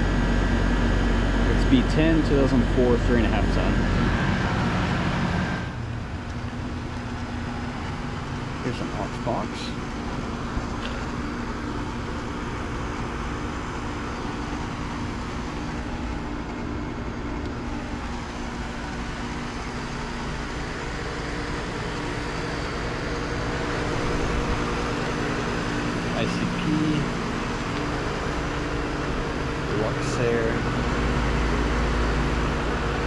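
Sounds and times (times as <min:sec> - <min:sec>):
compressor hum: 0:00.0 - 0:33.0
condenser fan rushing: 0:00.0 - 0:33.0.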